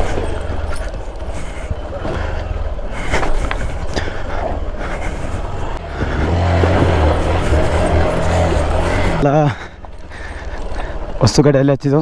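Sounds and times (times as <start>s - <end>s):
motorcycle engine running slowly: 0.0s - 11.3s.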